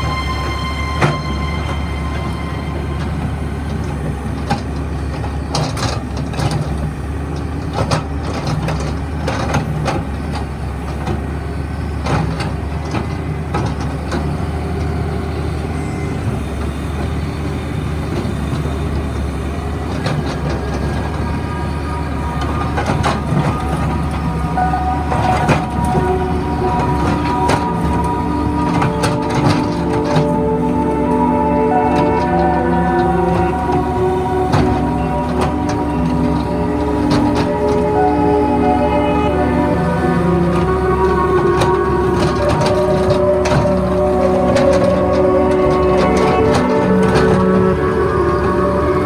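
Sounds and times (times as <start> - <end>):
diesel excavator engine running: 0.0 - 49.0.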